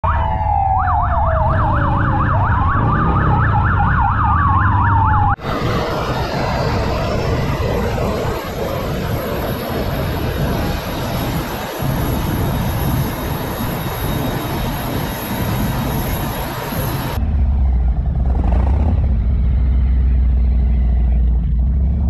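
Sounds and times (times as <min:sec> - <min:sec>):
police sirens yelp and wail: 0:00.0 - 0:18.2
wind and road noise: 0:00.0 - 0:22.0.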